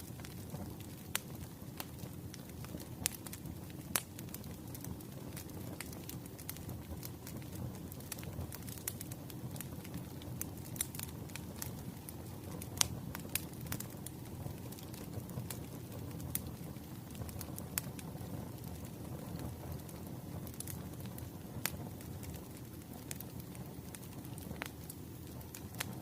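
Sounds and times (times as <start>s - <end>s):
flames rumbling: 0.0s - 26.0s
logs crackling and popping: 0.0s - 26.0s.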